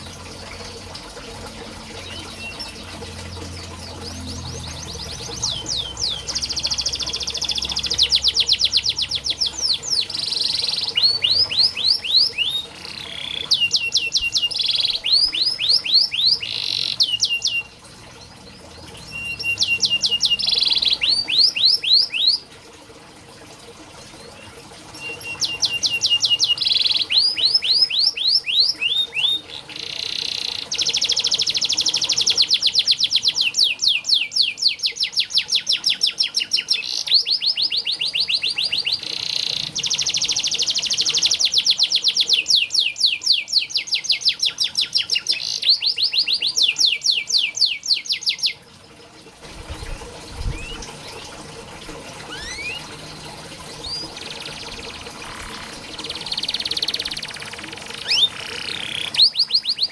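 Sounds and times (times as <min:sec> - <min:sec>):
canary singing trills: 0:01.8 - 0:22.5, 0:24.4 - 0:48.6, 0:49.8 - 0:51.2, 0:52.3 - 0:59.9.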